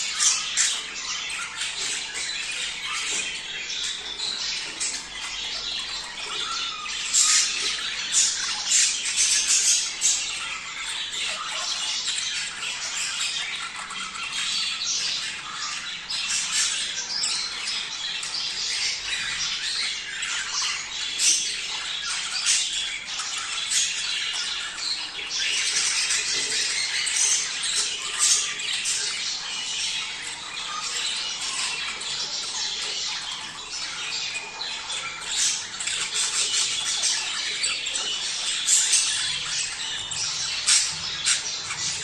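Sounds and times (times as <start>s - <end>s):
budgerigars chattering and squawking: 0.0s - 42.0s.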